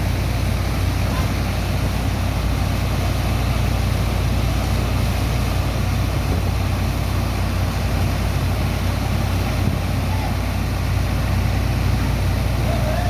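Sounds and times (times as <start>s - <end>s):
pump engine humming: 0.0s - 13.0s.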